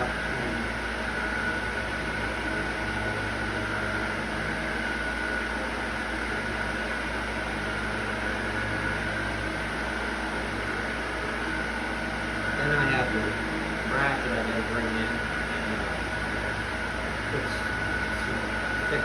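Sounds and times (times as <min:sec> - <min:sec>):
machine hum with high whine: 0:00.0 - 0:19.0.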